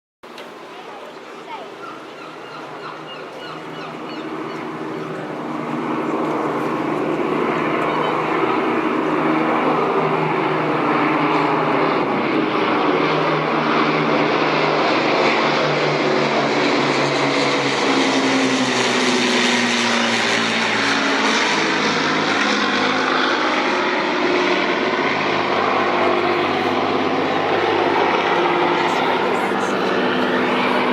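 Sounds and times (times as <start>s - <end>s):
propeller aircraft engines droning: 0.2s - 30.9s.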